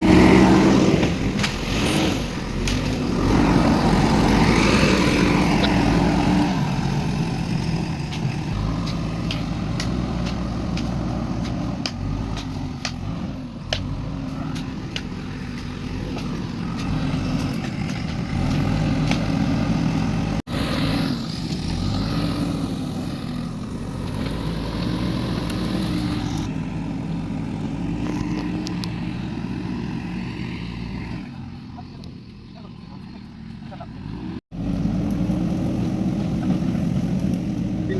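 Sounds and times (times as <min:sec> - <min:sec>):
heavy machine engine working: 0:00.0 - 0:32.0.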